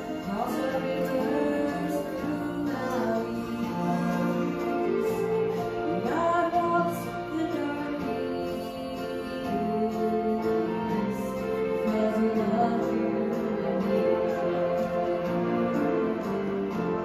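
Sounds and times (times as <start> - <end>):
woman singing gospel: 0.0 - 5.2, 5.9 - 14.7
instrumental accompaniment: 0.0 - 17.0.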